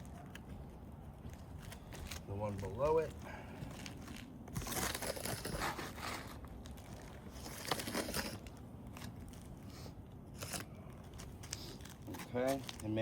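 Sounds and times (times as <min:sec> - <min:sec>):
scraping on asphalt shingles: 0:01.2 - 0:13.0.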